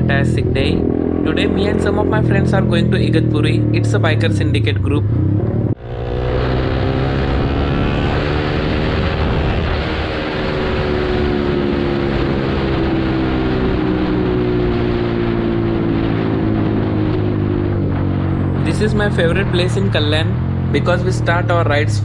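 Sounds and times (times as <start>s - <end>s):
motorcycle engine running: 0.0s - 22.0s
road noise: 0.0s - 22.0s
wind noise: 0.0s - 22.0s.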